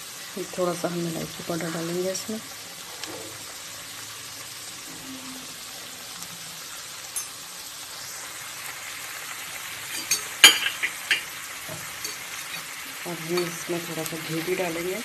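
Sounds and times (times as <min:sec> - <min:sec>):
food sizzling in metal pan: 0:00.0 - 0:15.0.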